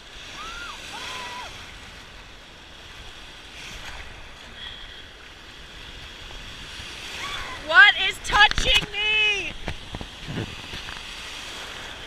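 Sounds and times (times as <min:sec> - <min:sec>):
lake waves splashing: 0:00.0 - 0:12.0
wind rumbling on microphone: 0:00.0 - 0:12.0.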